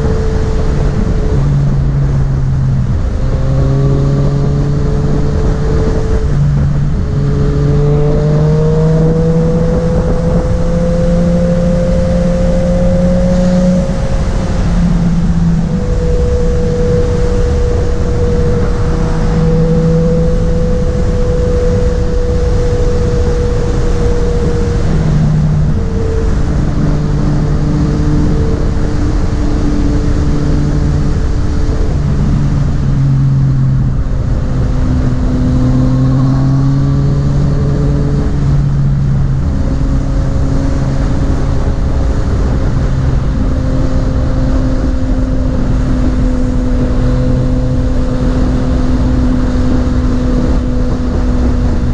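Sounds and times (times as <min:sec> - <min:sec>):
motorcycle engine running: 0:00.0 - 0:51.9
wind rush: 0:00.0 - 0:51.9.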